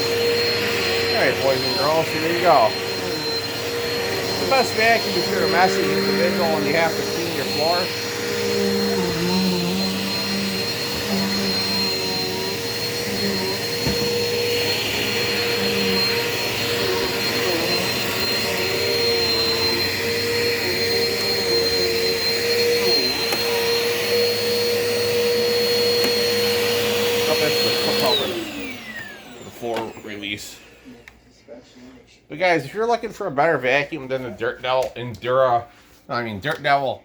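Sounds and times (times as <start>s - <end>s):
vacuum cleaner running: 0.0s - 31.2s.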